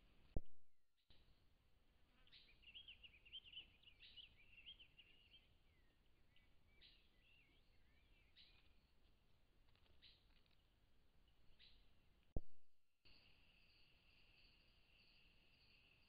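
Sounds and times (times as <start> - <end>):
faint birdsong twittering: 1.1 - 12.4, 13.1 - 16.0.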